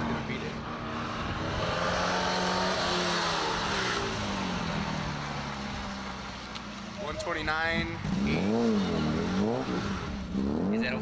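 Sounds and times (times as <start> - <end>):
car engine under hard driving: 0.0 - 11.0.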